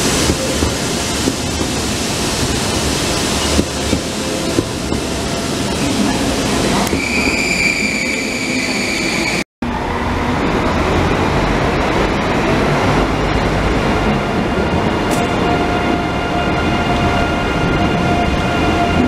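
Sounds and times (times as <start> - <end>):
high-speed train whine: 0.0 - 19.0
train wheels rumbling: 0.0 - 19.0.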